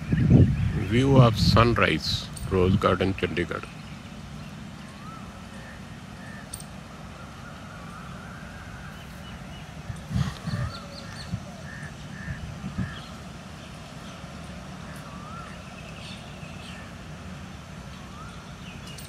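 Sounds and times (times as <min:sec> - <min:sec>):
steady low rumble: 0:00.0 - 0:18.8
birds chirping: 0:00.0 - 0:19.0.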